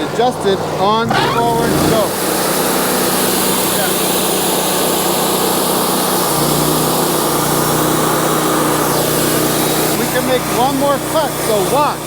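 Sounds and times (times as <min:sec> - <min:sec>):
sawmill engine running: 0:00.0 - 0:12.0
band saw cutting through log: 0:00.8 - 0:12.0.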